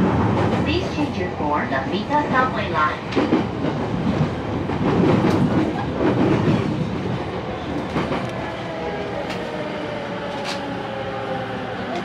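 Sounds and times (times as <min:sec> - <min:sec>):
train running rumble: 0:00.0 - 0:12.0
wheels clickety-clack on rails: 0:00.0 - 0:12.0.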